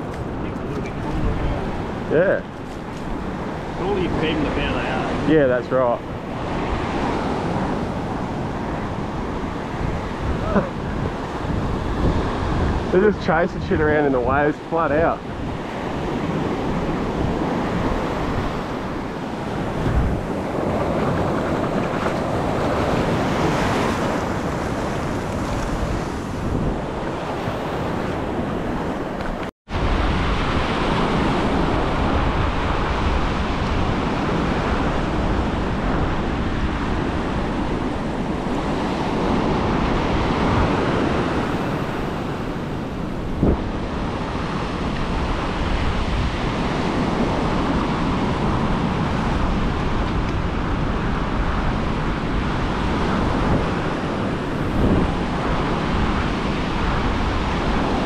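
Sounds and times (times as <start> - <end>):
ocean surf on beach: 0.0 - 58.0
wind buffeting microphone: 0.0 - 58.0.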